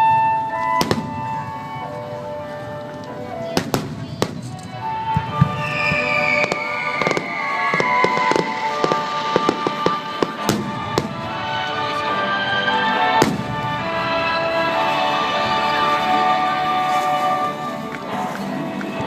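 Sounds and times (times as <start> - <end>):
fireworks bursting and crackling: 0.0 - 19.0
music: 0.0 - 19.0.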